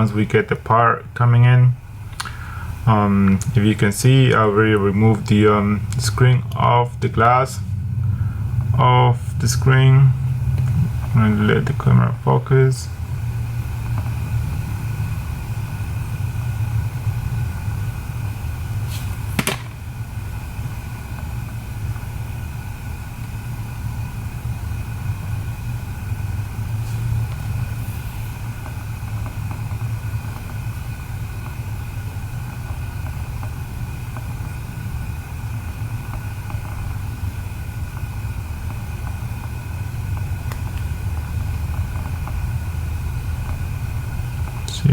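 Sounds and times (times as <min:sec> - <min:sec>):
machine hum: 0:00.0 - 0:44.9.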